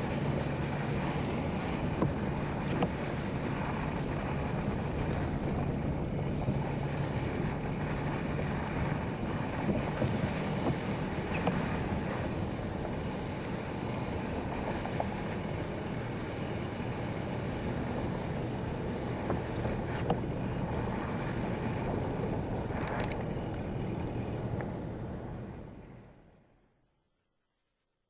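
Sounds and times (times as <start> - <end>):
wind noise on microphone: 0.0 - 26.0
vehicle rumbling through snow: 0.0 - 26.2.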